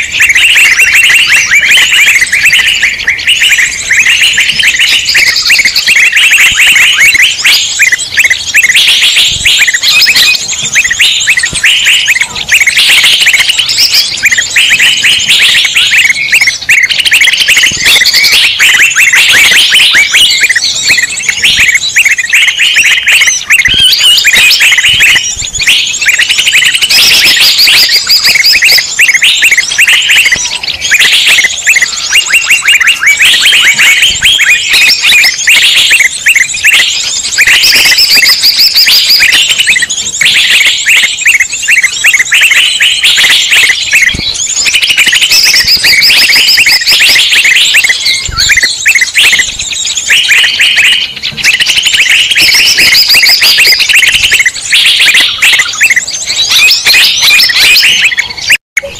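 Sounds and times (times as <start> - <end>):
songbirds chirping chorus: 0.0 - 58.9.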